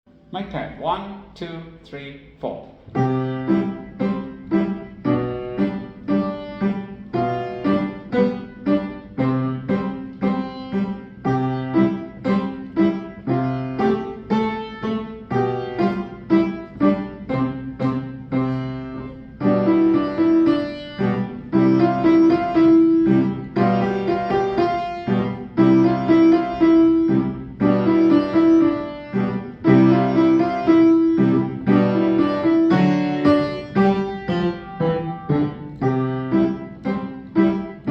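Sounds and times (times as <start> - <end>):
piano playing: 2.8 - 37.9.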